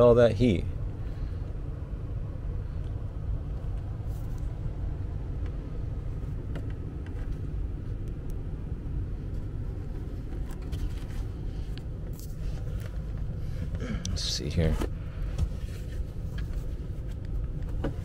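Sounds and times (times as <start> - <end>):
hvac system rumble: 0.0 - 18.0.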